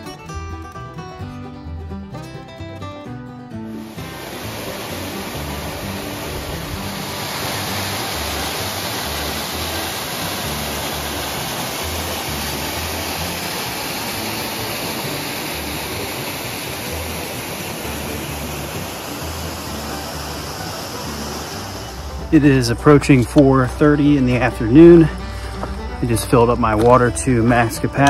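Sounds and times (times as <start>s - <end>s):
faint background music bass: 0.0s - 28.0s
waterfall splashing over rocks: 3.8s - 27.0s.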